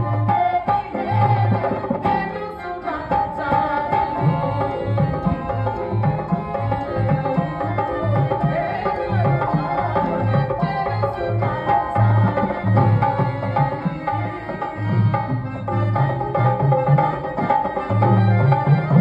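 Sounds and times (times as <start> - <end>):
held melody line: 0.0 - 19.0
tabla playing: 0.0 - 19.0.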